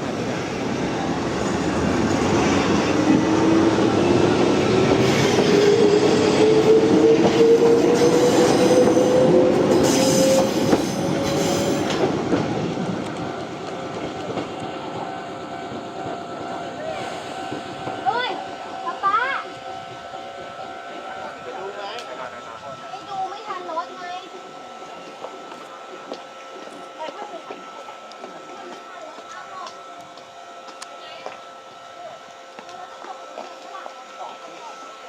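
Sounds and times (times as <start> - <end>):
electric train motor whine: 0.0 - 35.0
wheels rumbling on rail: 0.0 - 35.0.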